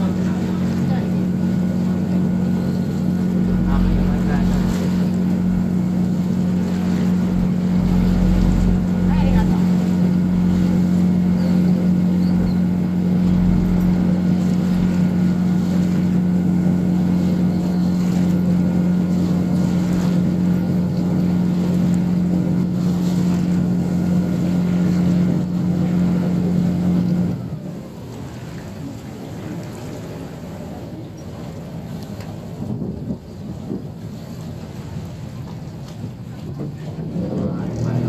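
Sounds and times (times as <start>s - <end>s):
ferry boat engine humming: 0.0s - 38.0s
water: 0.0s - 38.0s
wind: 0.0s - 38.0s.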